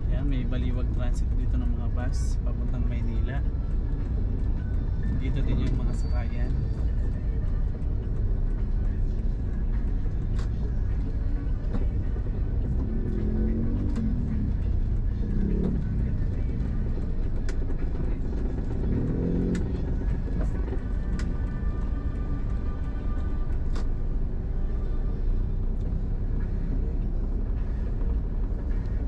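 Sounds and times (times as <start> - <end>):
engine and road rumble: 0.0 - 29.0.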